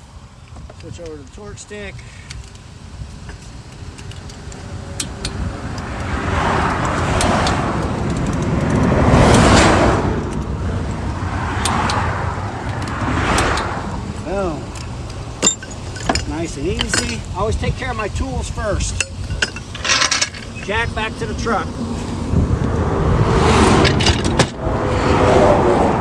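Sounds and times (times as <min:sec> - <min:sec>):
vehicles whooshing past: 0:01.0 - 0:26.0.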